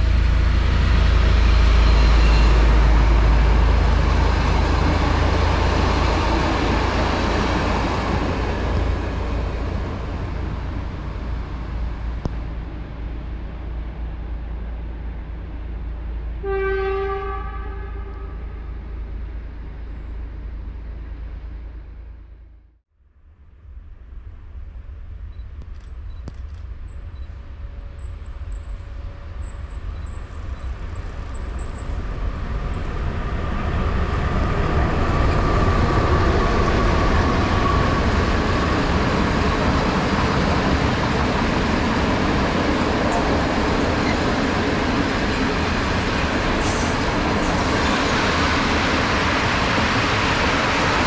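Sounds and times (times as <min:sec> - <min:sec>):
electric locomotive whine: 0:00.0 - 0:22.4, 0:23.6 - 0:51.0
freight wagons rumbling on rails: 0:00.0 - 0:22.6, 0:23.6 - 0:51.0.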